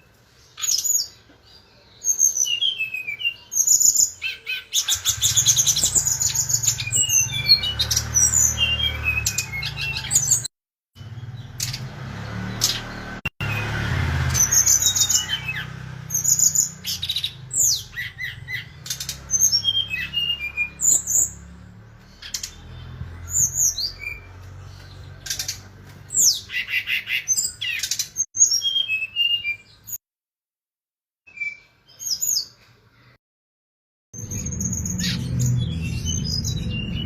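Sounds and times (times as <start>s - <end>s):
bird singing chirps and whistles: 0.0s - 1.2s, 1.8s - 10.5s, 12.6s - 21.6s, 22.2s - 30.0s, 31.3s - 32.5s, 34.2s - 37.0s.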